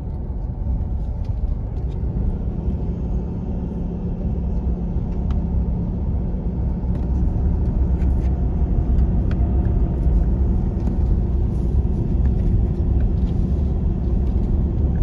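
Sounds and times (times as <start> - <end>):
vehicle on dirt road rumbling: 0.0 - 15.0.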